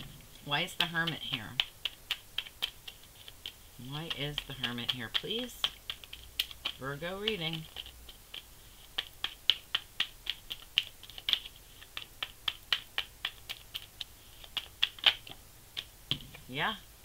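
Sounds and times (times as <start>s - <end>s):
cards being shuffled: 0.8s - 16.5s.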